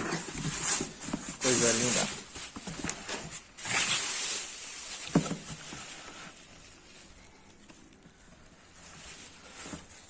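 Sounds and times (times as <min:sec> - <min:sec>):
hissing handling rustle: 0:00.2 - 0:10.0.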